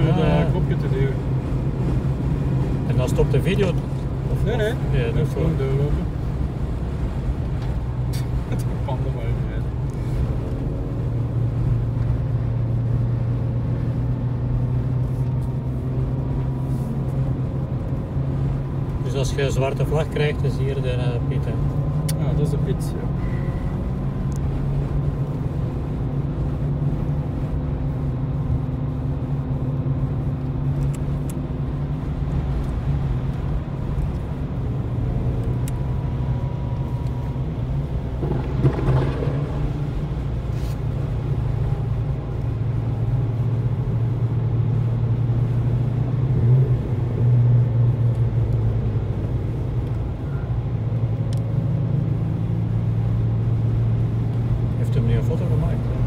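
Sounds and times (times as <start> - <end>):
car engine drone in cabin: 0.0 - 56.0.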